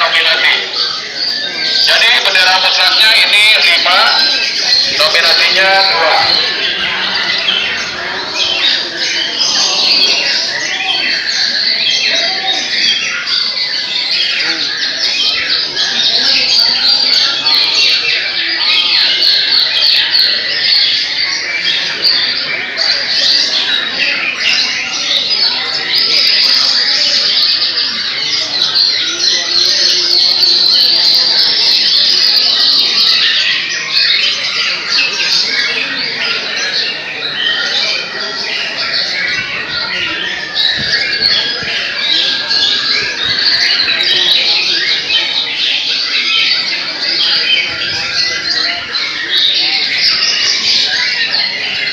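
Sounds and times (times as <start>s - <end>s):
birds singing chirps and trills: 0.0s - 51.9s.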